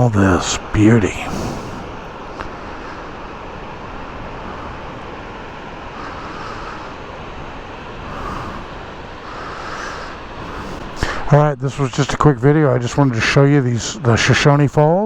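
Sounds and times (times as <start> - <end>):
large waterfall rushing: 0.0 - 14.9.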